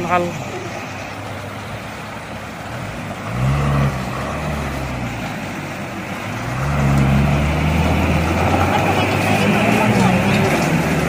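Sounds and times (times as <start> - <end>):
floodwater rushing: 0.0 - 11.0
vehicle engine revving: 0.0 - 11.0.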